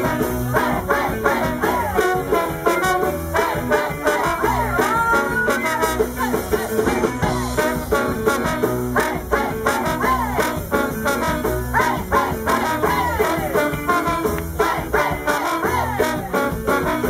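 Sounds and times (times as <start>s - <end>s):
drums: 0.0s - 17.0s
electric bass: 0.0s - 17.0s
live rhythm and blues band: 0.0s - 17.0s
saxophone: 0.0s - 17.0s
trombone: 0.0s - 17.0s.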